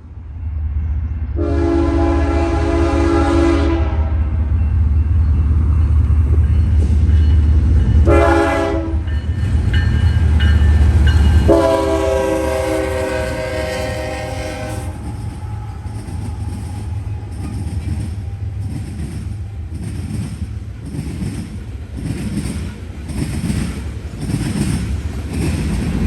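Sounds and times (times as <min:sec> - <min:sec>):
locomotive engine rumble: 0:00.0 - 0:26.0.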